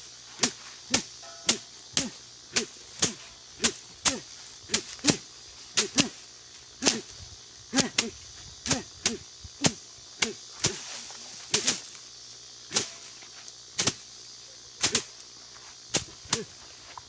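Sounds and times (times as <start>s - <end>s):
sharp strikes threshing plants: 0.0s - 7.2s, 7.8s - 12.1s, 12.7s - 14.1s, 14.8s - 15.3s, 15.9s - 16.7s.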